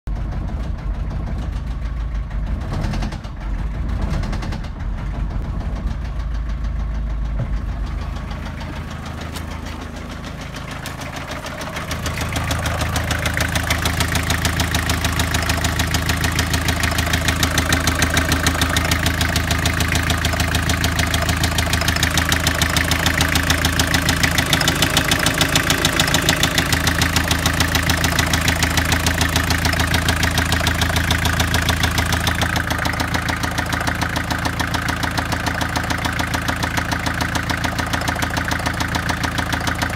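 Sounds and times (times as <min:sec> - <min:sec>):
diesel engine idling: 0:00.1 - 0:39.9.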